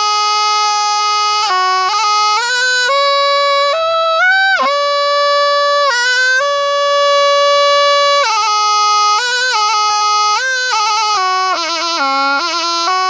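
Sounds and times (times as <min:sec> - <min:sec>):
reed oboe melody: 0:00.0 - 0:13.0.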